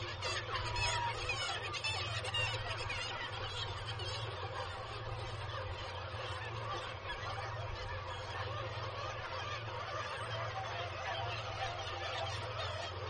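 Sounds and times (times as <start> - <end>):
seabird colony calling: 0.0 - 13.0.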